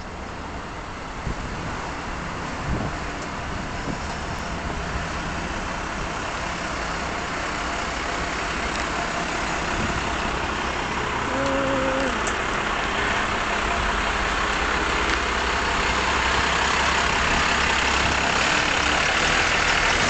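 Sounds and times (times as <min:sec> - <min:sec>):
bus diesel engine at low revs: 0:00.0 - 0:20.0.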